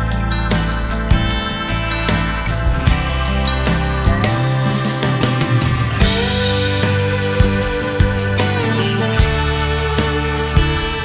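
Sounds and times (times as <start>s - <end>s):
guitar background music: 0.0s - 11.0s
steady bass line: 0.0s - 11.0s.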